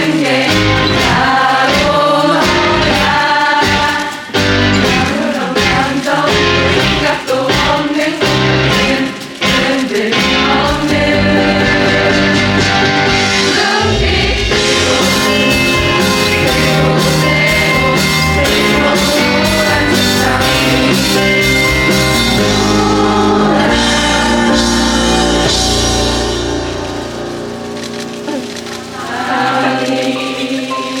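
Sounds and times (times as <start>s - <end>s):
audience singing in unison: 0.0s - 31.0s
instrumental music with steady beat: 0.0s - 31.0s.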